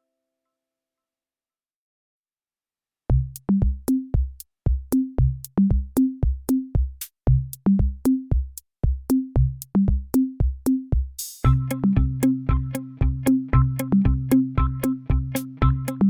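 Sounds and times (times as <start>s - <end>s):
drum machine beat: 3.1s - 16.0s.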